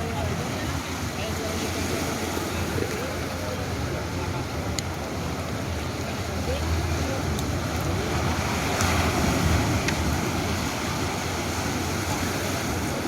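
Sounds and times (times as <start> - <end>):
surf breaking on a beach: 0.0 - 13.0.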